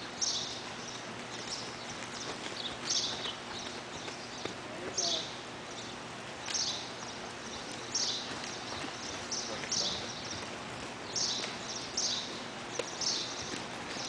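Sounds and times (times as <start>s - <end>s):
horses trotting on soft footing: 0.0s - 14.0s.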